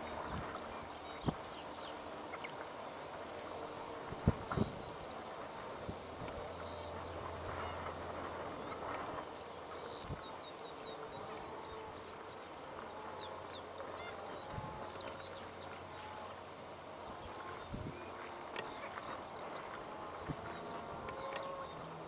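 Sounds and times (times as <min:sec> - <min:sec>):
birds calling: 0:00.0 - 0:22.0
low steady hum: 0:00.0 - 0:22.0.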